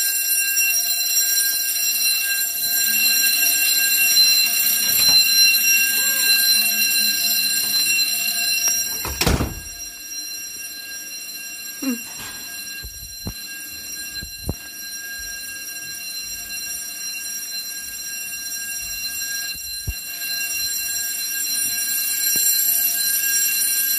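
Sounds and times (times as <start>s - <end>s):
fire alarm tone: 0.0s - 23.9s.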